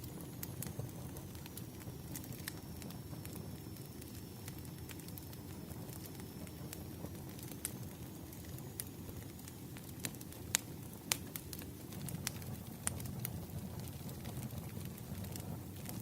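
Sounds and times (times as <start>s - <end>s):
firewood crackling and popping: 0.0s - 16.0s
low fire rumble: 0.0s - 16.0s.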